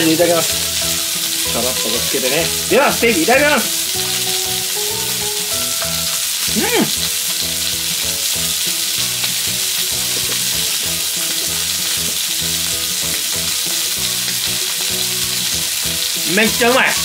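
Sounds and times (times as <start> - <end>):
steak sizzling on hot plate: 0.0 - 17.0.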